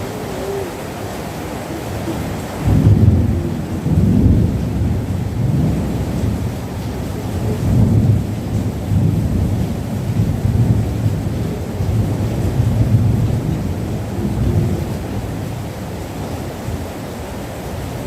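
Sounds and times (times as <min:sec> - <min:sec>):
rain: 0:00.0 - 0:18.0.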